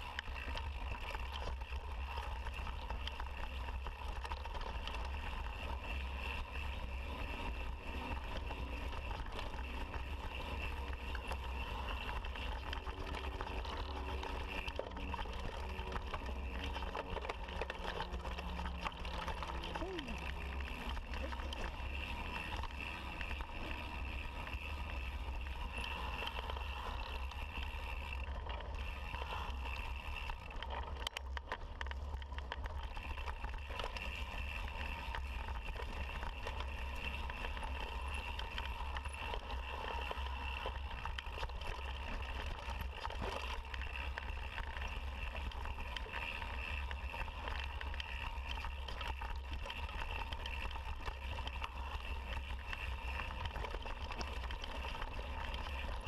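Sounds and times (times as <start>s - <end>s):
bike rattling over rocks: 0.0s - 56.0s
wind and rolling rumble: 0.0s - 56.0s.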